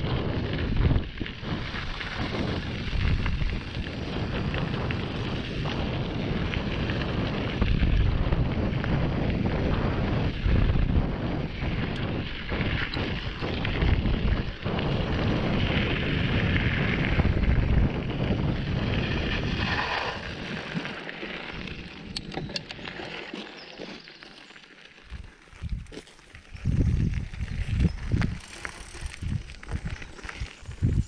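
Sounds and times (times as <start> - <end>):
wind buffeting microphone: 0.0 - 23.2, 25.1 - 31.0.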